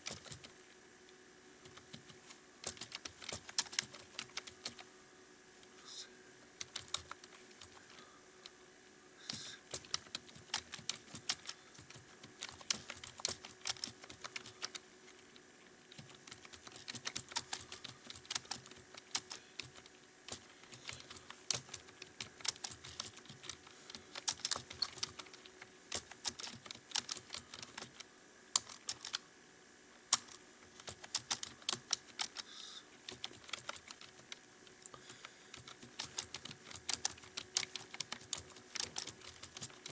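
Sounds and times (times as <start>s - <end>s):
fast typing on keyboard: 0.0s - 0.6s, 1.6s - 4.9s, 6.6s - 8.0s, 9.3s - 29.2s, 30.1s - 39.9s.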